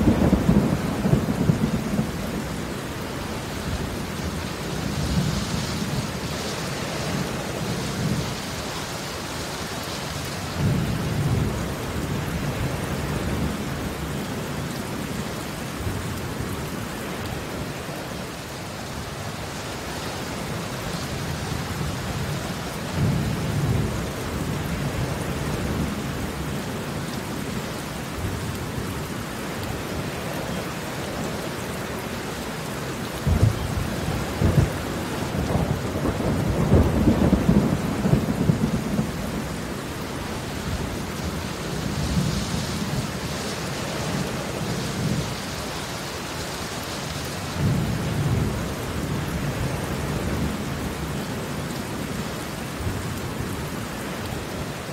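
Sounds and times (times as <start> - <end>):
heavy rain on concrete: 0.0 - 54.9.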